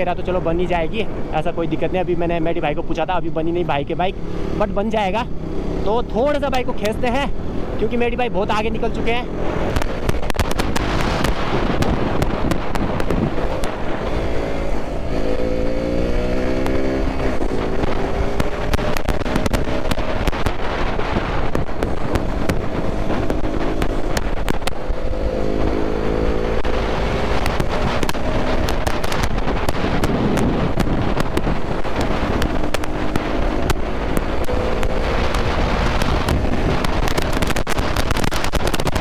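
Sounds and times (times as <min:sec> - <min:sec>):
wind rushing on microphone: 0:00.0 - 0:39.0
motorcycle engine accelerating: 0:02.9 - 0:39.0.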